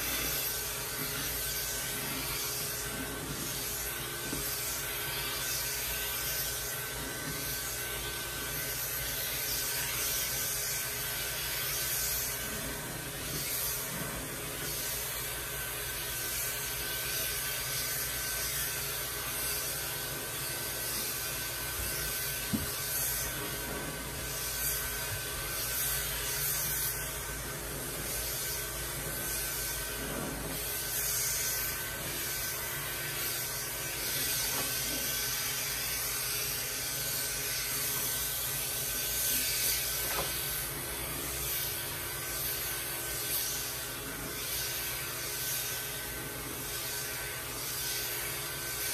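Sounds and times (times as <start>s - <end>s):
pet clipper and vacuum humming: 0.0s - 48.9s.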